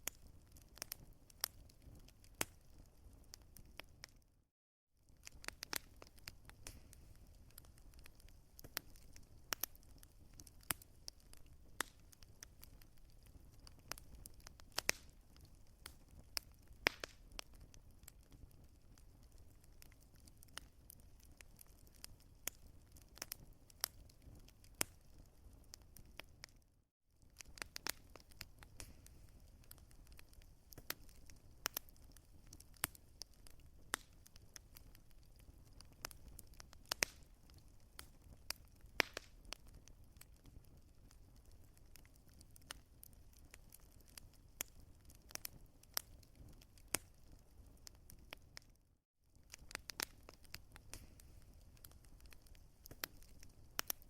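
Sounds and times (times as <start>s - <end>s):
burning wood crackling: 0.0s - 4.2s, 5.1s - 26.6s, 27.2s - 48.7s, 49.3s - 54.0s
low steady fire rumble: 0.0s - 4.3s, 5.0s - 26.6s, 27.2s - 54.0s.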